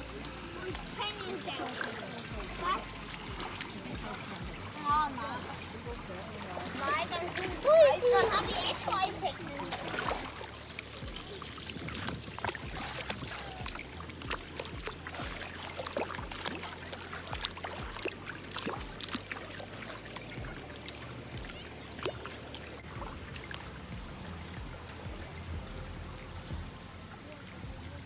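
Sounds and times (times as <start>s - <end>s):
water drips: 0.0s - 28.0s
water trickling and splashing: 0.0s - 28.0s.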